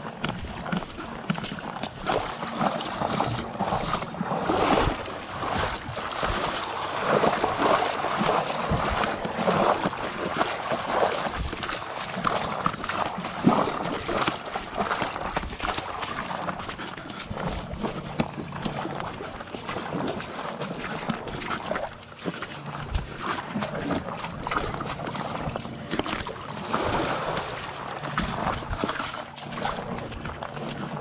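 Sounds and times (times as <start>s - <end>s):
small waves lapping on rocks: 0.0s - 31.0s.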